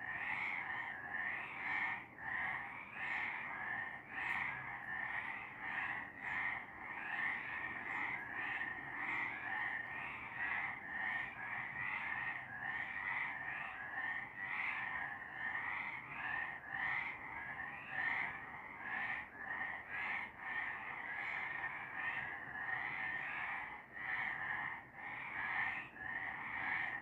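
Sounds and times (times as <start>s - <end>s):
frogs calling in chorus: 0.0s - 27.0s.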